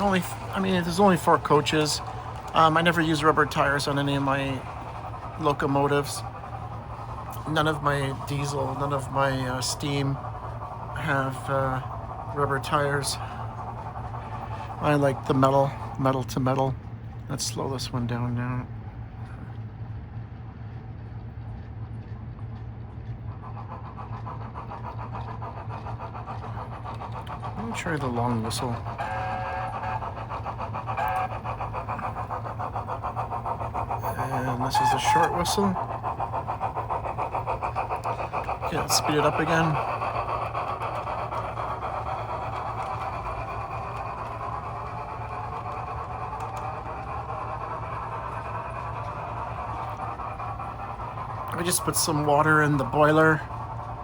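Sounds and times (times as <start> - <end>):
rapid rhythmic beat: 0.0 - 16.5, 26.4 - 54.0
metal wheels rolling on rails: 0.0 - 19.6, 21.4 - 54.0
model train running on metal track: 0.0 - 54.0
steady low hum: 0.0 - 54.0.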